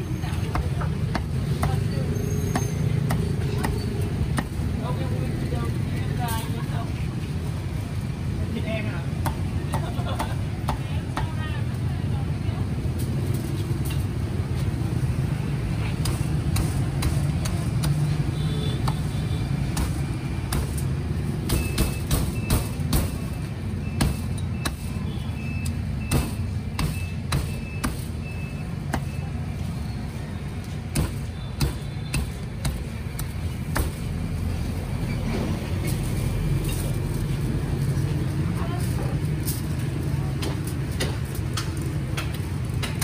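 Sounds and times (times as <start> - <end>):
low rumble of road traffic: 0.0 - 43.0.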